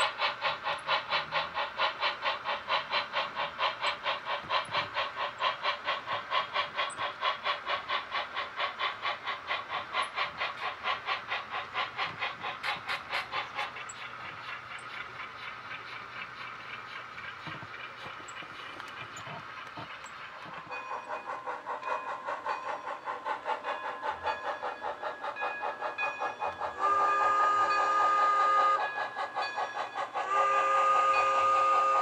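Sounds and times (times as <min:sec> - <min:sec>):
model steam locomotive chuffing: 0:00.0 - 0:32.0.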